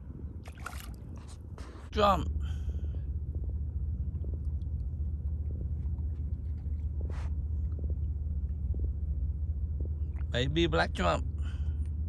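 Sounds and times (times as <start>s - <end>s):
deep rumble: 2.2s - 12.0s.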